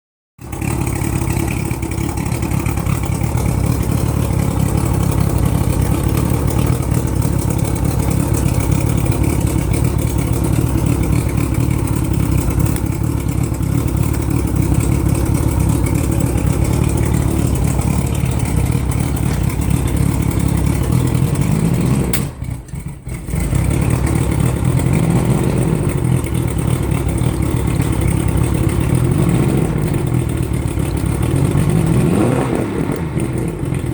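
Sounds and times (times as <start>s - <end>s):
outboard motor running: 0.4s - 33.9s.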